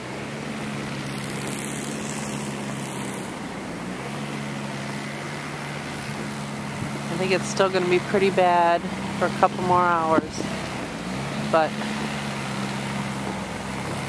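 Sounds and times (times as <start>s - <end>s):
engine running: 0.0s - 14.0s
outdoor noise hiss: 0.0s - 14.0s.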